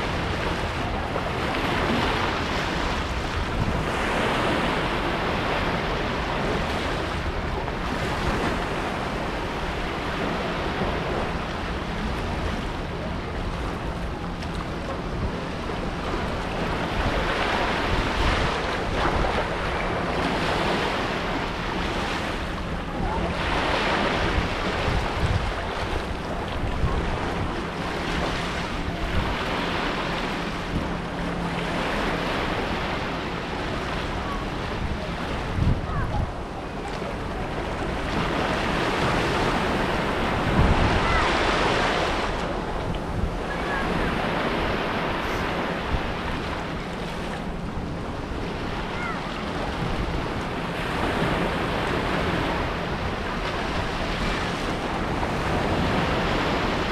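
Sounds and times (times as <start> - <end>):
small waves breaking on shore: 0.0 - 56.9
wind rumble on microphone: 0.0 - 56.9.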